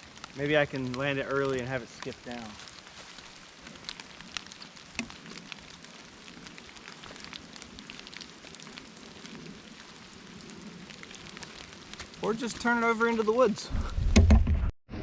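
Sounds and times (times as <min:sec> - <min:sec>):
rain falling: 0:00.0 - 0:13.8.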